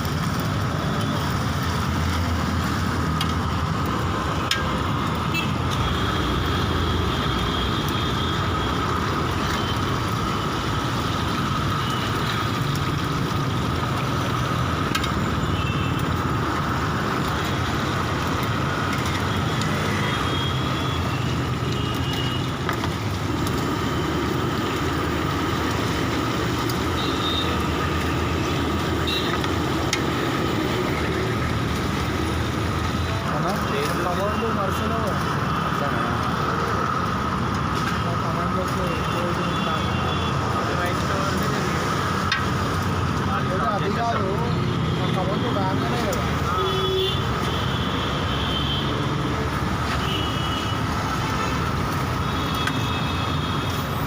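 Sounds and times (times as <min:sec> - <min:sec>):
fish frying in a pan: 0:00.0 - 0:43.5, 0:49.5 - 0:54.0
cooking flame hissing: 0:00.0 - 0:54.0.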